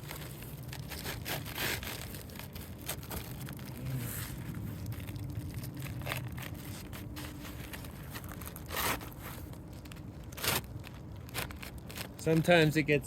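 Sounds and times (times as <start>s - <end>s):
tool scraping under shingles: 0.0s - 12.6s.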